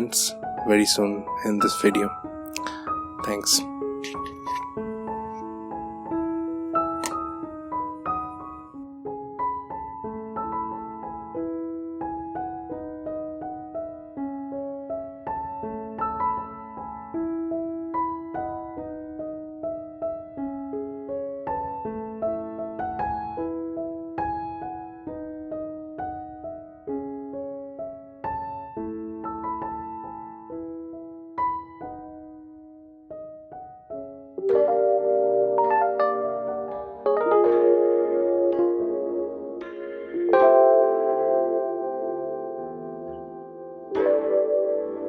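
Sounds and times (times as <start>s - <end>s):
gentle piano melody: 0.0s - 45.0s.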